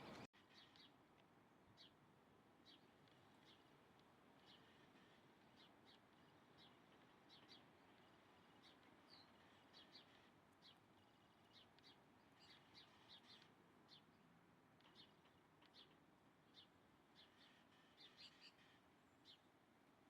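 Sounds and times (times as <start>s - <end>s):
faint bird chirping: 2.6s - 19.5s.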